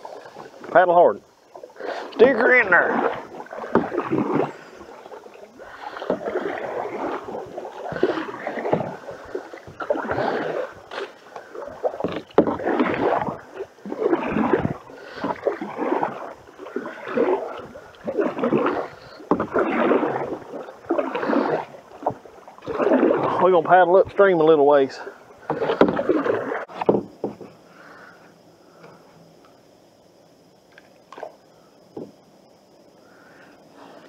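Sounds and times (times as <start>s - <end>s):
canoe paddles splashing: 0.0s - 34.0s.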